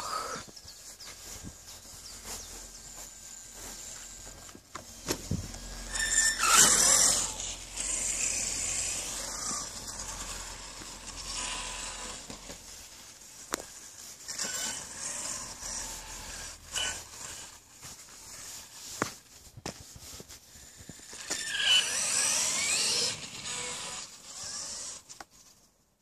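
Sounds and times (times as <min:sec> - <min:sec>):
electric motor and gear whine: 0:00.0 - 0:19.2, 0:19.9 - 0:25.3
tyres tearing through grass: 0:00.0 - 0:25.1.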